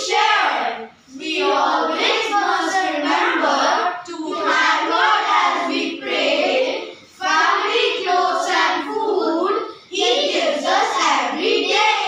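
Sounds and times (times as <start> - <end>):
children chanting in unison: 0.0 - 12.0.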